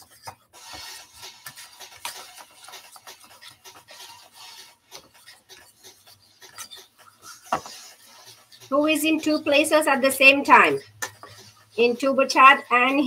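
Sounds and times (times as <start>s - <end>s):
utensil beating batter in bowl: 0.0s - 13.0s.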